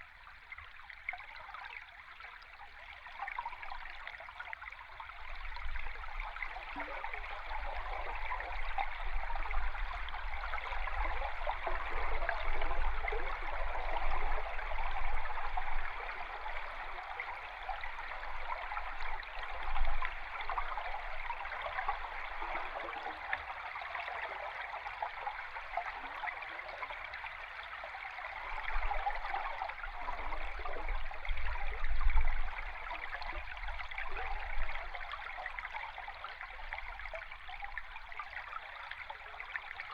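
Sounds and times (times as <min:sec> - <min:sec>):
underwater stream rushing and bubbling: 0:03.2 - 0:39.9.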